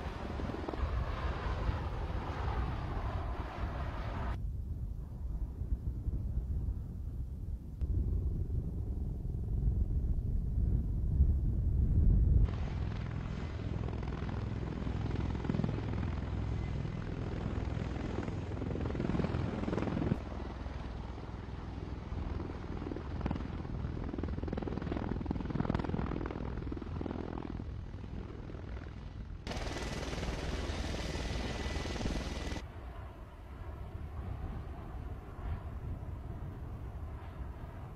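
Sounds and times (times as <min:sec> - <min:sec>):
aircraft rotors and engines droning: 0:00.0 - 0:37.9.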